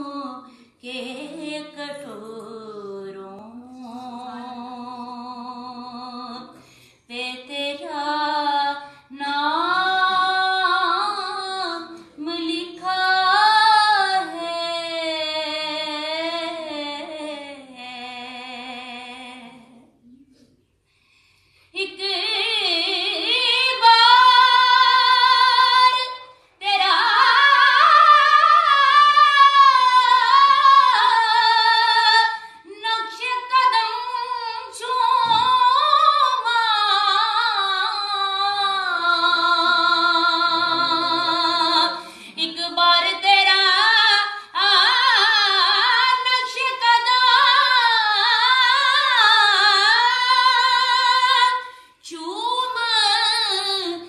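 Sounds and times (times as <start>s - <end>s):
woman singing unaccompanied: 0.0s - 19.8s, 21.8s - 54.0s.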